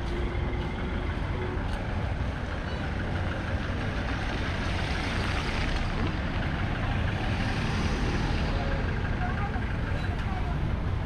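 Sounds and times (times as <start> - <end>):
vehicle engines low rumble: 0.0 - 11.0.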